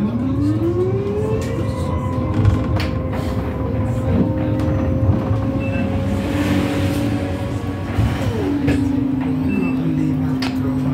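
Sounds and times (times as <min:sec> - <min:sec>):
road rumble: 0:00.0 - 0:10.9.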